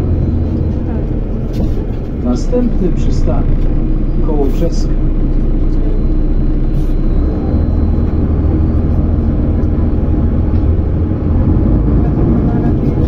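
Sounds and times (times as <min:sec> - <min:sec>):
tram rumbling past: 0:00.0 - 0:13.0.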